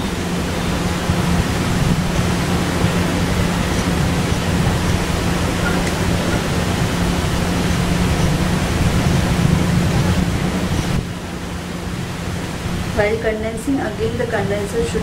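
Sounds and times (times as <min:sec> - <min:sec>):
low hum: 0:00.0 - 0:15.0
steady background hiss: 0:00.0 - 0:15.0.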